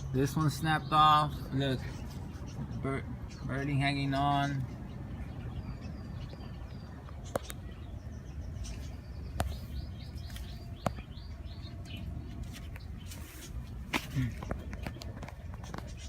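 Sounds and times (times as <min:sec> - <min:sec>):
small bird chirping: 0:00.3 - 0:16.0.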